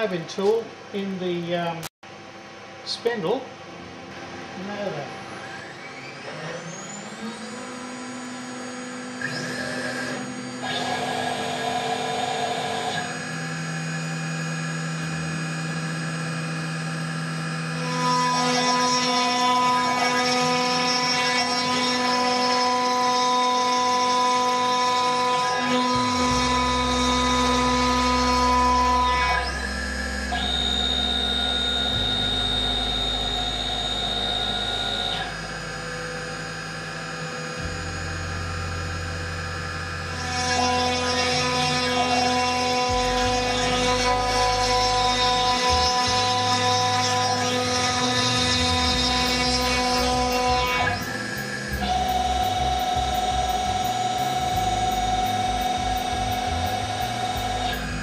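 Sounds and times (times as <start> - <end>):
cnc router whining: 0.0 - 58.0.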